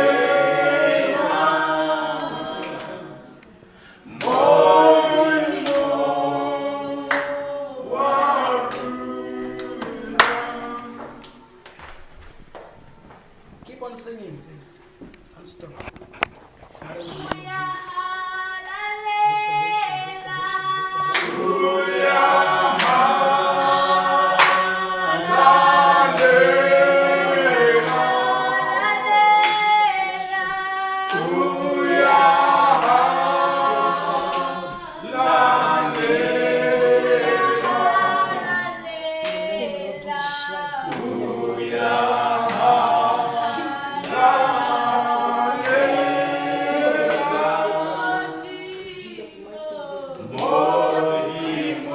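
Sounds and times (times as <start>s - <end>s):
group singing a cappella: 0.0s - 13.4s, 16.6s - 51.9s.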